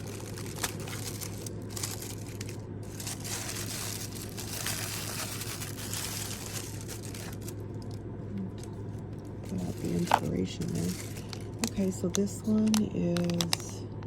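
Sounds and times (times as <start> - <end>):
packaging rustling and crinkling: 0.0 - 13.7.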